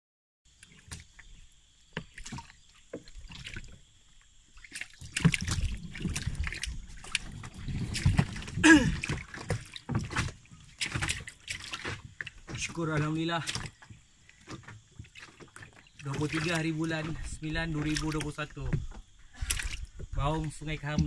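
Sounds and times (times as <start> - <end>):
water sloshing and splashing: 0.5 - 21.0.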